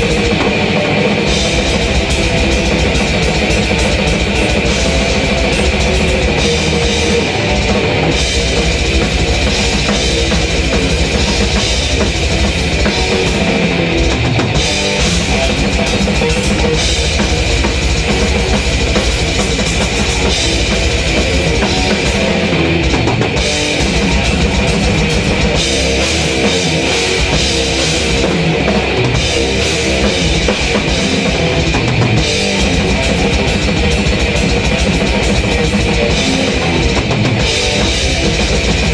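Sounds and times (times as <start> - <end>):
distorted guitar: 0.0 - 38.9
fast kick drum strokes: 0.0 - 38.9.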